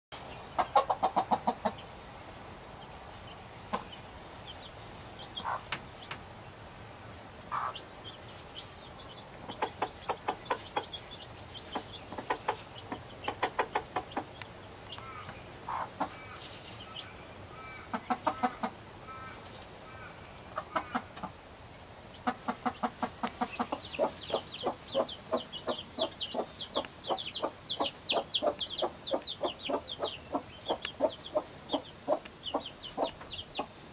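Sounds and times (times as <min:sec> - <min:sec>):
chicks peeping: 0:00.2 - 0:06.7, 0:07.4 - 0:21.4, 0:22.0 - 0:33.9
hen clucking softly: 0:00.3 - 0:01.9, 0:05.2 - 0:05.8, 0:07.5 - 0:08.2, 0:08.8 - 0:21.4, 0:22.1 - 0:33.8.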